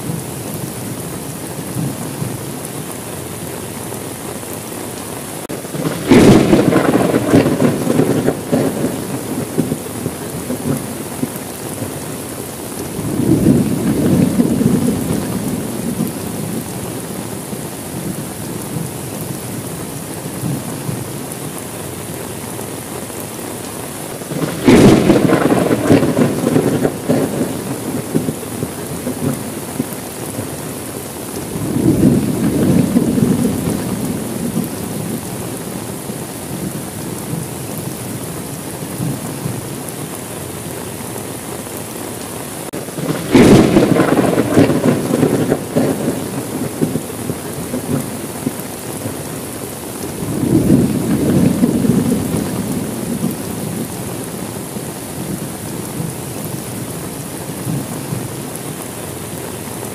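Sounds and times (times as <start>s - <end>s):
thunder rumbling and cracking: 0.0s - 3.5s, 5.1s - 40.2s, 42.6s - 58.6s
steady rain: 0.0s - 59.9s.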